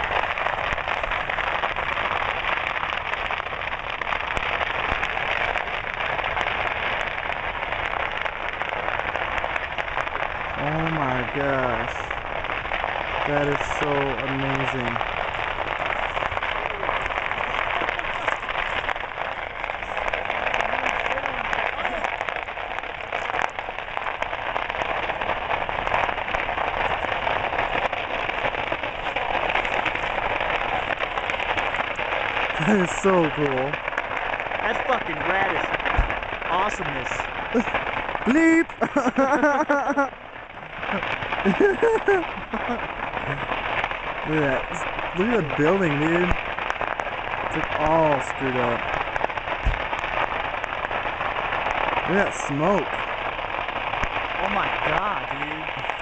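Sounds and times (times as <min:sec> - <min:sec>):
fireworks crackling and popping in fire: 0:00.0 - 0:56.0.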